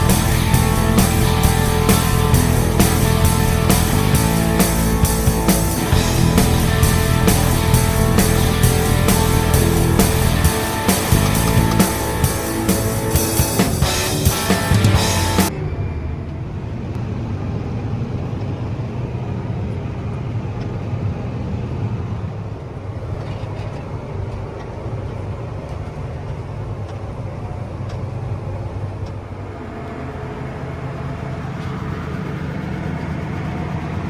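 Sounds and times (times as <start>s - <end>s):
machinery noise: 0.0s - 20.4s, 22.5s - 34.0s
combine harvester engine drone: 0.0s - 20.5s, 22.4s - 34.0s.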